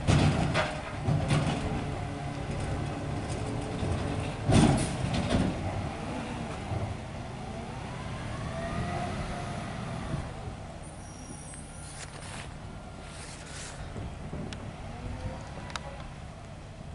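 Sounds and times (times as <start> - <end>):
garbage truck engine pulling away: 0.0 - 16.9.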